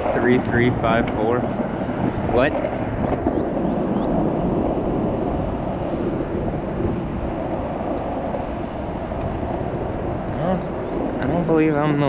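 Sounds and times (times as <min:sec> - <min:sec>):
skateboard rolling on pavement: 0:00.0 - 0:11.9.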